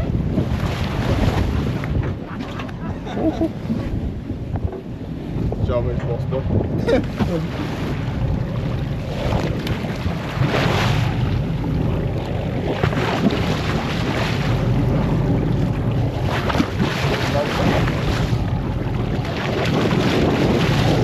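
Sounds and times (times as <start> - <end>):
low rumble: 0.0 - 21.0
water washing against hull: 0.0 - 21.0
wind buffeting microphone: 0.0 - 21.0.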